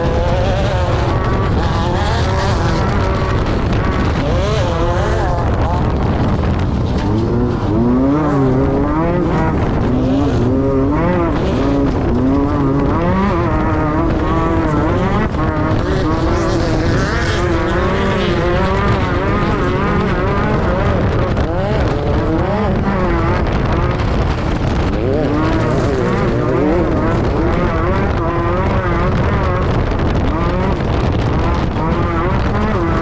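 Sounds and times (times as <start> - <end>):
buggy engine running hard: 0.0 - 33.0.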